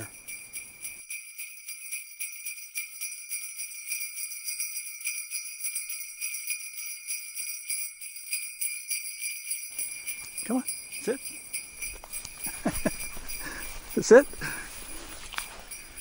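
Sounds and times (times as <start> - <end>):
jingle bells shaken: 0.0 - 16.0.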